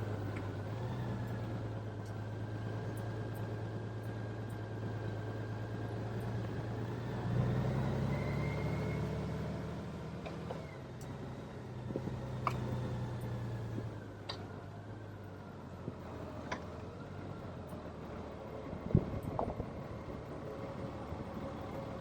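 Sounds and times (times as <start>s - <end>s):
motorcycle engine hum: 0.0s - 22.0s
road and wind noise: 0.0s - 22.0s.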